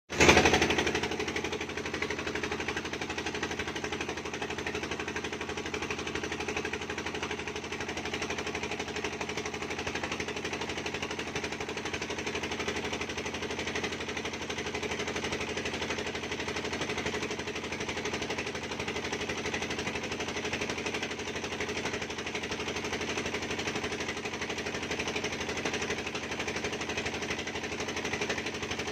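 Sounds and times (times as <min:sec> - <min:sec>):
boat engine knocking: 0:00.1 - 0:28.9.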